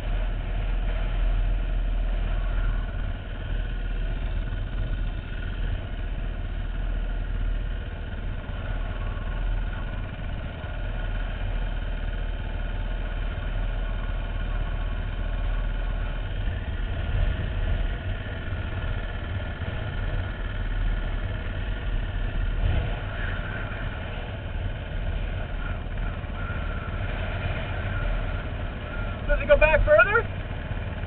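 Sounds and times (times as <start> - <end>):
dirt bike engine idling: 0.0 - 31.0.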